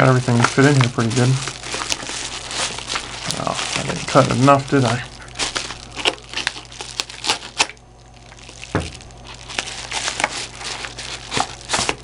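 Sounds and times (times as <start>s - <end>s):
knife slitting paper envelope: 0.0s - 7.7s, 8.9s - 12.0s
paper envelope crinkling: 0.0s - 12.0s.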